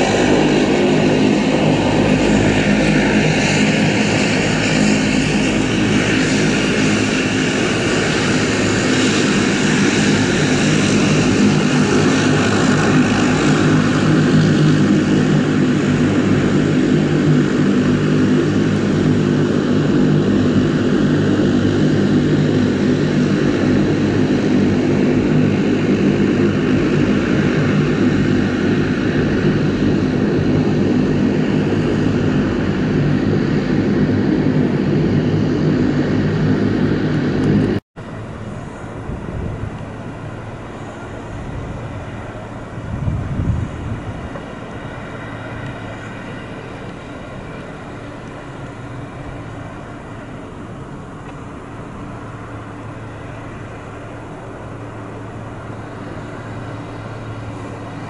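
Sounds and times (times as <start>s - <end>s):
turboprop engines and propellers droning: 0.0s - 58.0s.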